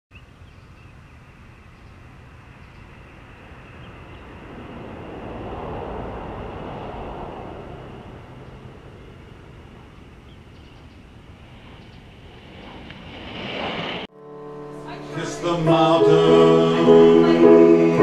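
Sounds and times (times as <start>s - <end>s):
steady outdoor hum: 0.1s - 18.0s
vehicle passing: 0.9s - 18.0s.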